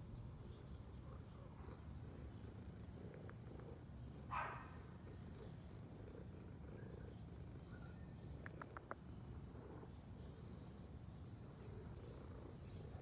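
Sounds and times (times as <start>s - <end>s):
cat purring: 0.8s - 13.0s.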